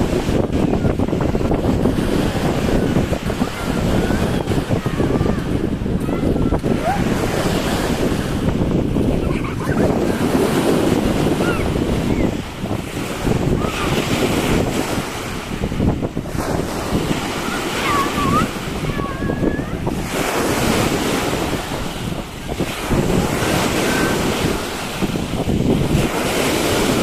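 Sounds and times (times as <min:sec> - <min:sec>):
waves breaking on beach: 0:00.0 - 0:27.0
wind buffeting microphone: 0:00.0 - 0:27.0.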